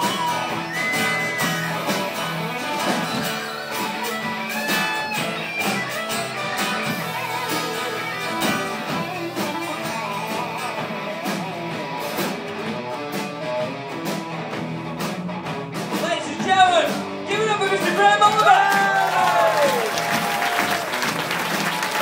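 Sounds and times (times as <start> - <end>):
electric guitars: 0.0 - 22.0
live band playing: 0.0 - 22.0
steady drum beat: 0.0 - 22.0.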